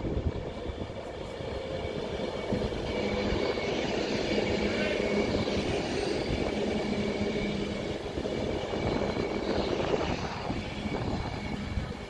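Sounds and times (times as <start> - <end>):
electric train hum: 0.0 - 12.0
traction motor whine: 0.3 - 12.0.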